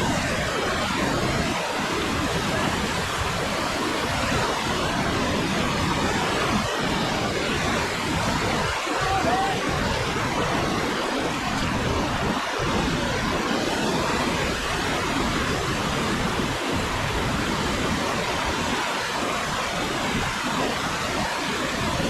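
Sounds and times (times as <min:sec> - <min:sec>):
whitewater rushing: 0:00.0 - 0:22.0.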